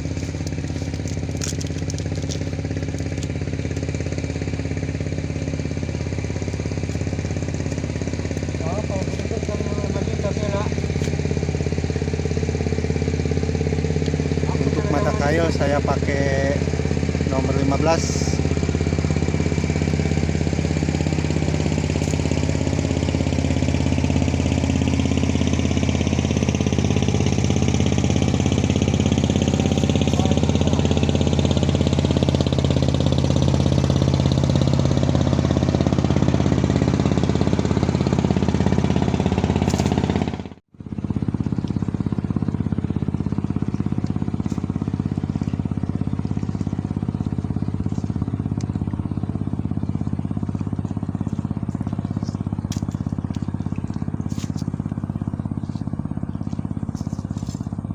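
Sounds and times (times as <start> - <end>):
motor engine running: 0.0 - 57.9.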